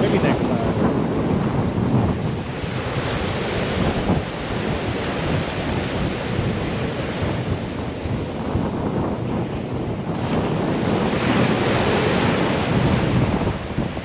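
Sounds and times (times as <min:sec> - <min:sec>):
ocean surf washing onto beach: 0:00.0 - 0:14.0
wind buffeting microphone: 0:00.0 - 0:14.0.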